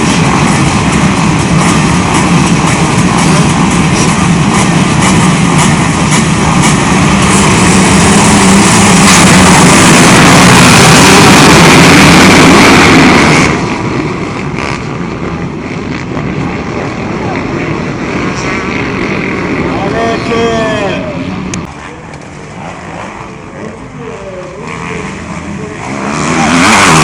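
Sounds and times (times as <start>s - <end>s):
motocross bikes revving: 0.0s - 27.0s.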